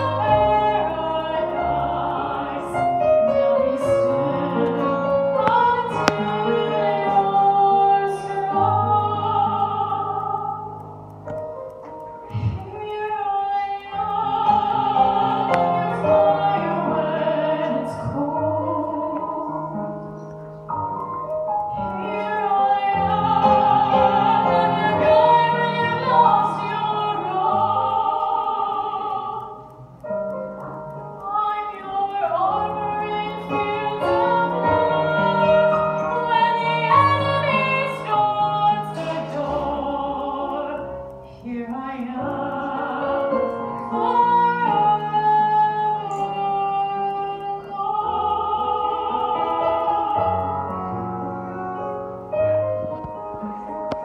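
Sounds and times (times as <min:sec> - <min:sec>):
woman singing operatically: 0:00.0 - 0:10.8, 0:12.4 - 0:19.7, 0:21.8 - 0:29.6, 0:31.2 - 0:50.7
digital piano: 0:00.0 - 0:54.0.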